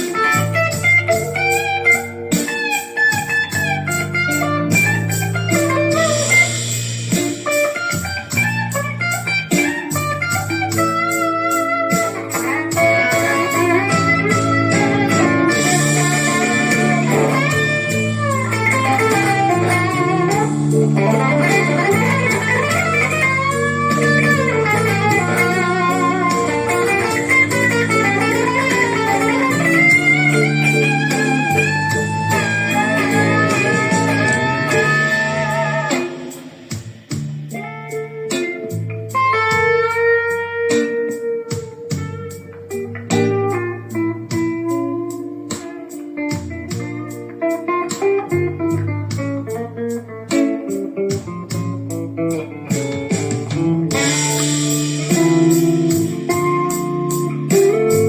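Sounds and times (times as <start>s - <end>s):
backing track: 0.0s - 58.0s
blues electric guitar: 0.0s - 58.0s.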